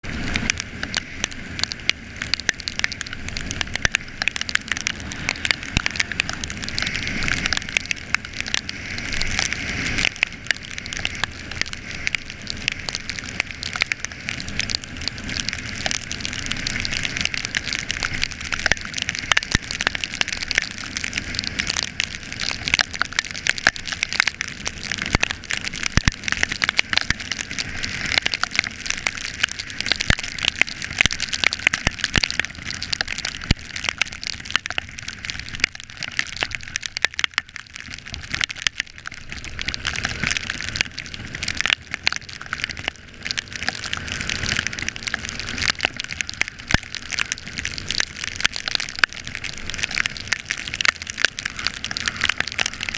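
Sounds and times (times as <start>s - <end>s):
heavy rain: 0.0s - 52.9s
raindrops striking near microphone: 0.0s - 52.9s.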